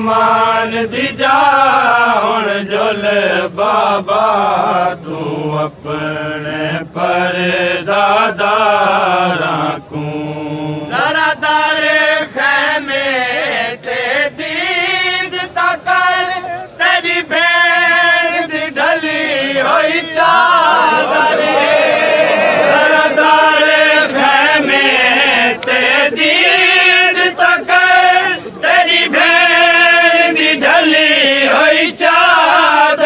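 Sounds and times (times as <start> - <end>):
voices chanting a lament: 0.0 - 33.0.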